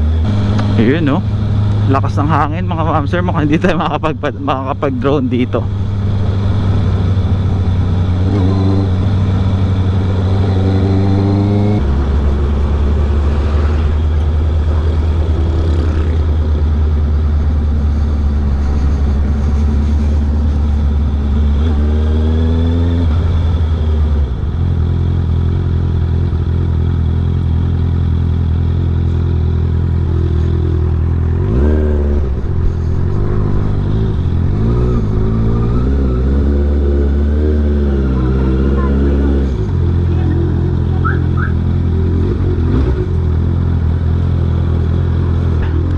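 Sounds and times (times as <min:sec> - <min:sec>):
loud motorcycle engine revving: 0:00.0 - 0:45.9.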